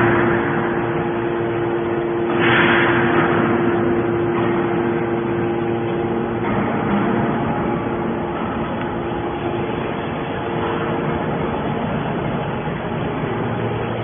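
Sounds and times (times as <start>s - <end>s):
hydraulic baler humming: 0.0s - 14.0s.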